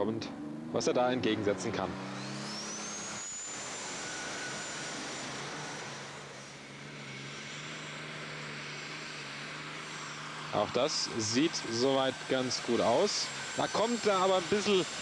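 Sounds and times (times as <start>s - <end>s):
diesel engine drone: 0.0s - 15.0s
turbo whine: 0.0s - 15.0s.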